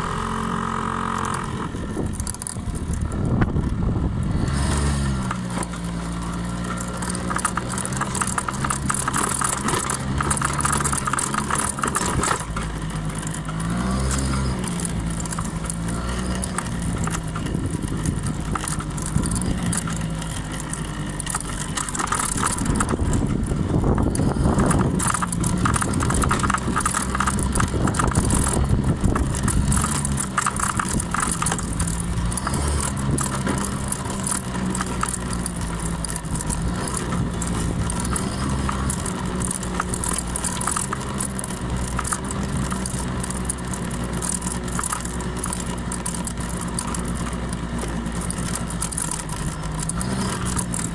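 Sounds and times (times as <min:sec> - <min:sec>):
scooter engine running: 0:00.0 - 0:50.9.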